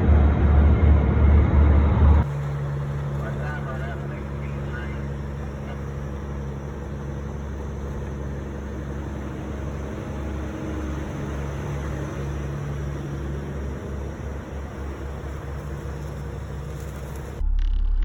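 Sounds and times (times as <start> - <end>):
diesel truck engine humming: 0.0 - 17.4
road noise: 0.0 - 17.5.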